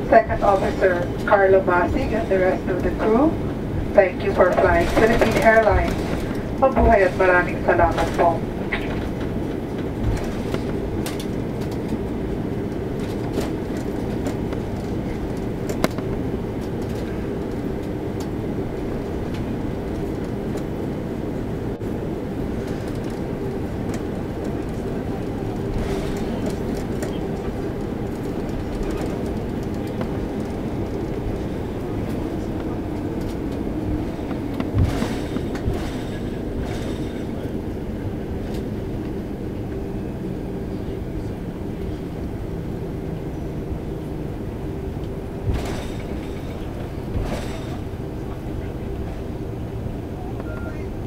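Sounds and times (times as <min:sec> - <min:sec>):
airplane cabin rumble while taxiing: 0:00.0 - 0:51.0.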